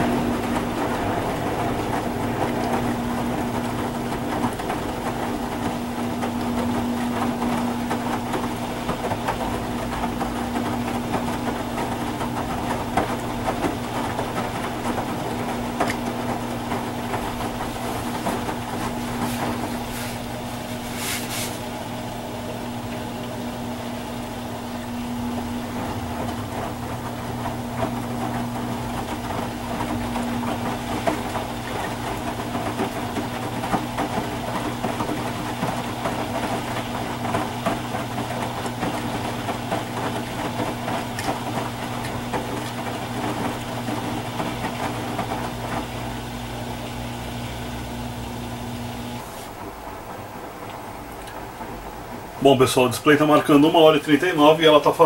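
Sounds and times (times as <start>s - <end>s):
washing machine drum humming: 0.0s - 55.0s.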